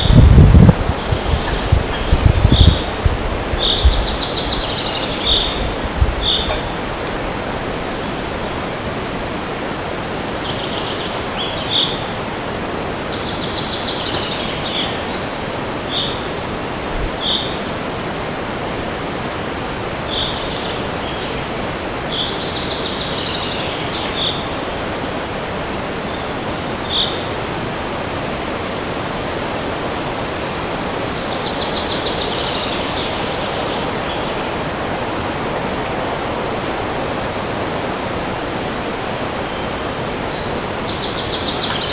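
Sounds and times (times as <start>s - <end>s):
songbirds calling: 0.0s - 41.9s
wind through a forest: 0.0s - 41.9s.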